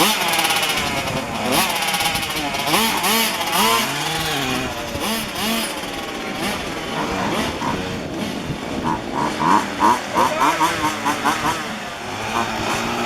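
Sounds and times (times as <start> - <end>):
small two-stroke engines revving: 0.0 - 13.0.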